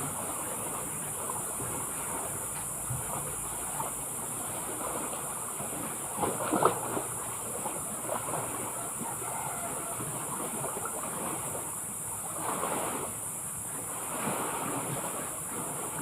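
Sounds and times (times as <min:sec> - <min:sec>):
sea water lapping: 0:00.0 - 0:16.0.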